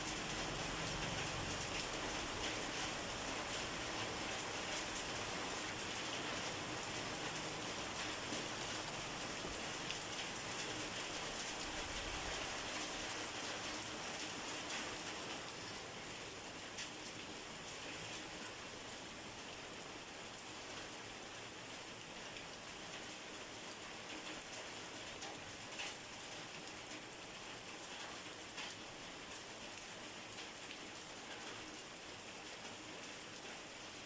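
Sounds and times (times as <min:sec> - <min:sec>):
rain on a hard surface: 0:00.0 - 0:34.0.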